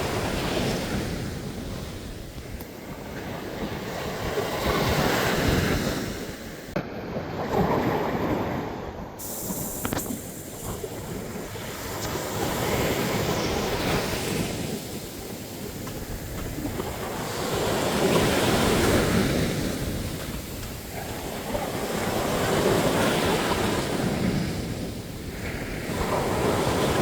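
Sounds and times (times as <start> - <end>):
waves breaking on a beach: 0.0 - 27.0.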